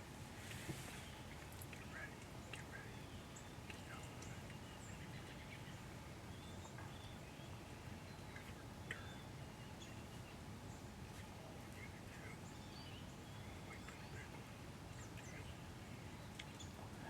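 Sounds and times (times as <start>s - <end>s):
faint bird chirps: 0.9s - 17.0s.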